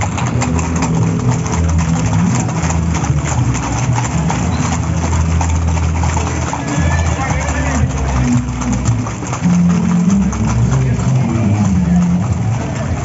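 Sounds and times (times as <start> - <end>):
horse hooves clopping on pavement: 0.0 - 13.0.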